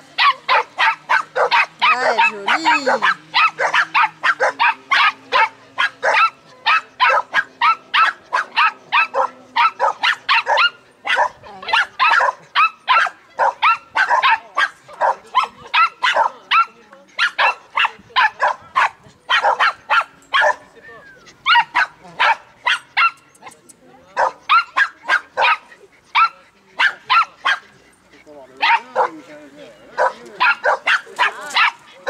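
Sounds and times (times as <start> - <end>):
dog barking: 0.2 - 20.6, 21.4 - 23.2, 24.2 - 27.6, 28.6 - 29.2, 30.0 - 31.8.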